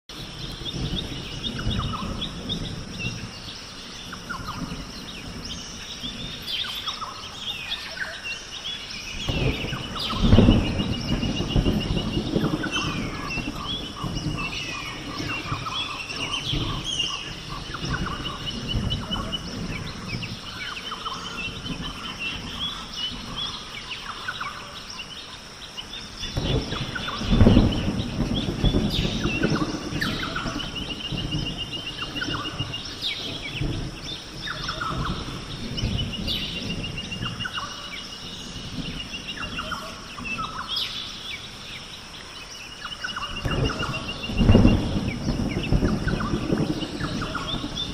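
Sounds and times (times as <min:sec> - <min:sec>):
birds and animals calling: 0:00.1 - 0:47.9
thunder rumbling: 0:00.1 - 0:47.9.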